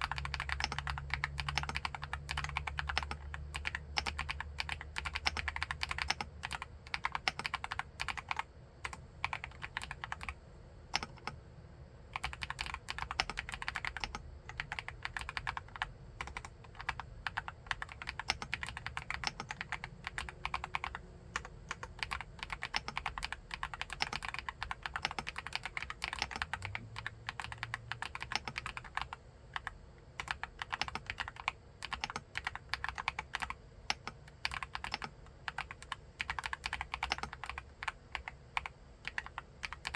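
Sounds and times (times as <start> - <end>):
typing on mechanical keyboard: 0.0 - 11.4, 12.2 - 39.9.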